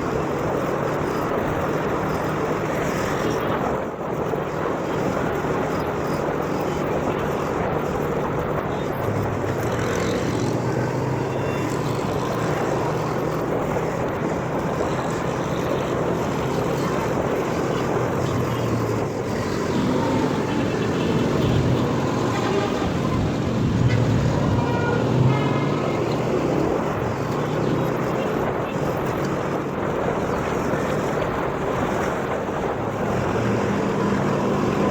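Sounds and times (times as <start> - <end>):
motorcycle engine hum: 0.0 - 34.9
road and wind noise: 0.0 - 34.9.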